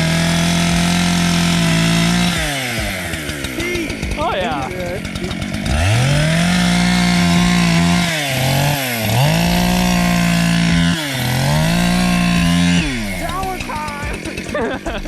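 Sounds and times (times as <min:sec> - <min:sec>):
chainsaw at full throttle: 0:00.0 - 0:15.0.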